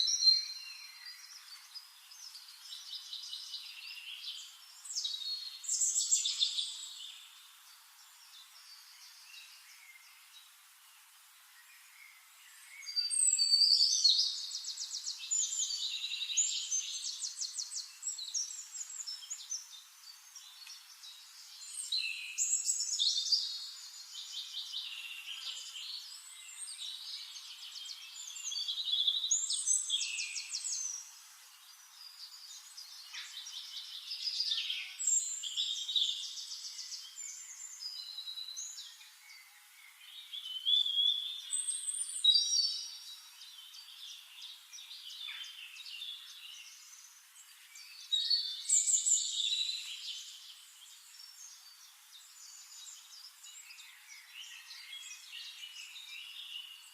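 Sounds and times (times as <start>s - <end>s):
songbird trills and whistles: 0.0s - 7.3s, 11.7s - 31.1s, 32.0s - 56.9s.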